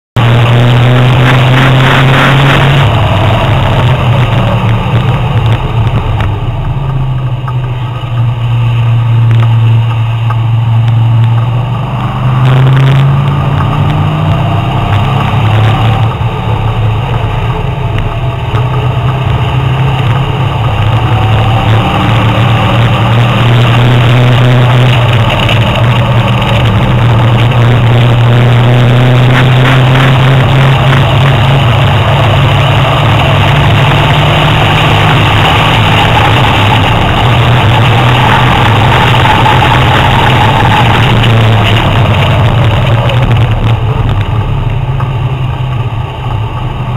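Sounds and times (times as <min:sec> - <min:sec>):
car engine accelerating: 0:00.2 - 0:46.9
wind and road noise: 0:00.2 - 0:46.9.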